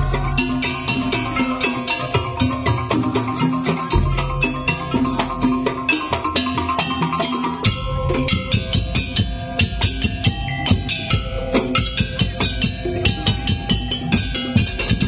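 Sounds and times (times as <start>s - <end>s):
drums playing fast rhythm: 0.0s - 15.0s
held pitched melody tones: 0.0s - 15.0s.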